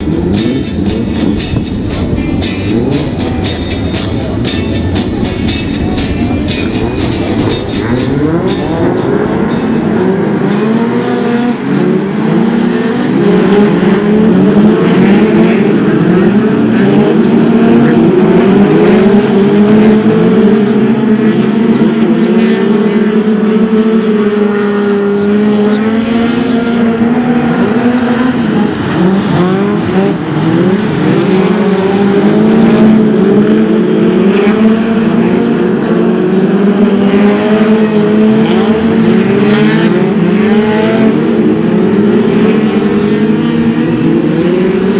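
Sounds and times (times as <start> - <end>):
racing car engines revving: 0.0 - 44.9.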